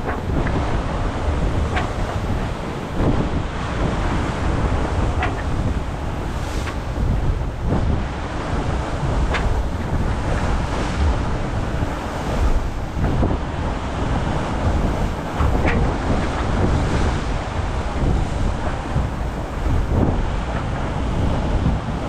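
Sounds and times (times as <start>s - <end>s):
rush of water and waves: 0.0s - 22.0s
wind buffeting microphone: 0.0s - 22.0s.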